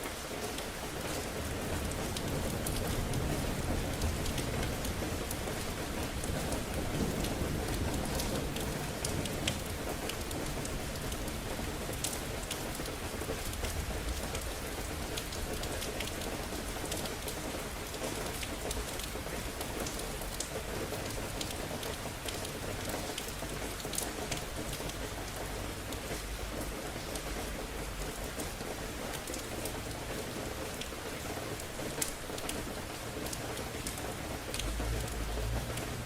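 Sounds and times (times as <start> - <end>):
rain on hard surfaces: 0.0 - 36.0.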